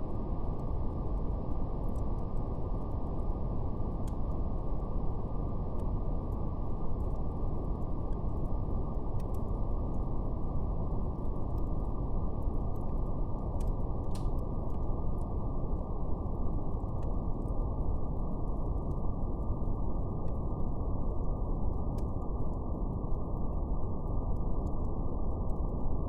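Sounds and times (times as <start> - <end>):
faint fire crackles: 0.0 - 26.0
low brown noise hiss: 0.0 - 26.0.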